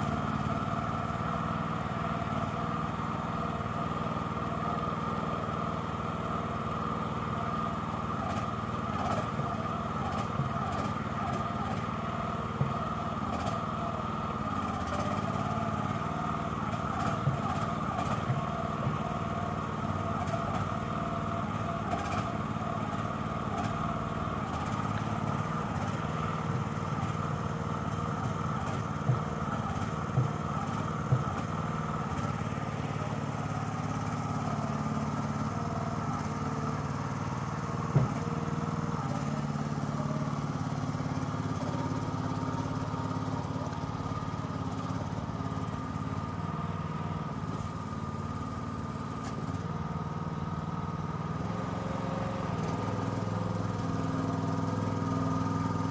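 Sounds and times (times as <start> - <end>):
small dumper engine running: 0.0 - 55.9.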